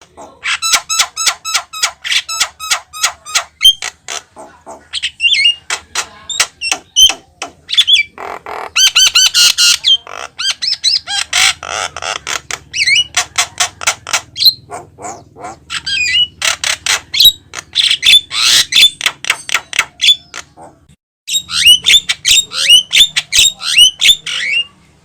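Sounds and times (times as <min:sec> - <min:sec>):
bird raspy squawks: 0:00.0 - 0:19.1, 0:19.9 - 0:24.8
bird chattering and whistling: 0:00.0 - 0:24.8.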